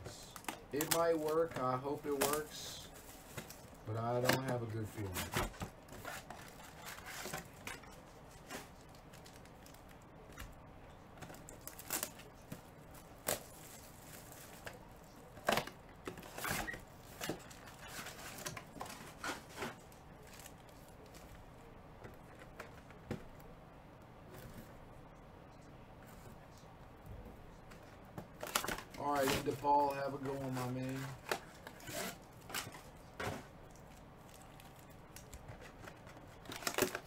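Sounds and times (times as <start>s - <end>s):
card packs tapping and crinkling: 0.0s - 10.5s, 11.2s - 21.4s, 27.7s - 37.0s.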